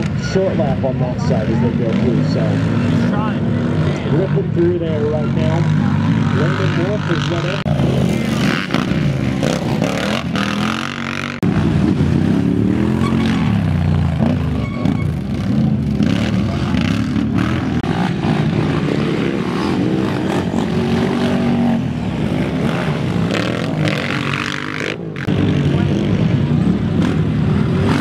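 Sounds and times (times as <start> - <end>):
quad engines revving: 0.0 - 28.0.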